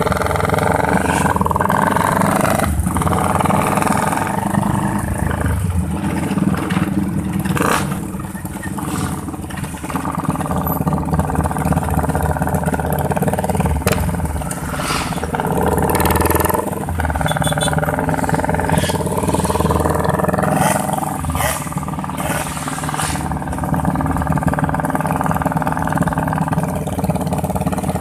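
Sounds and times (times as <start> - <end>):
loud motorcycle engine: 0.0 - 28.0.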